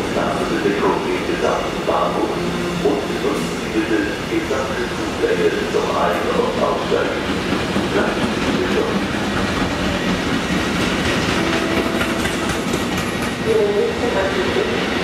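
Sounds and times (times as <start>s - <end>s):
steel wheels on rails: 1.3s - 15.0s.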